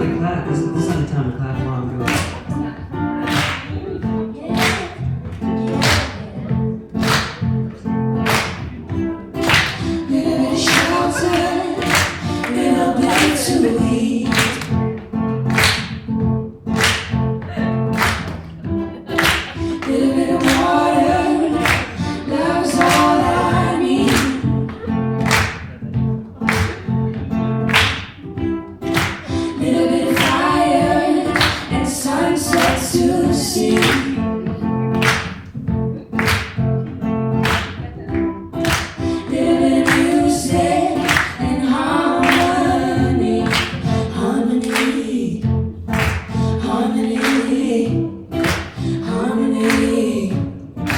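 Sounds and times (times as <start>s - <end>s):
people singing together: 0.0s - 50.9s.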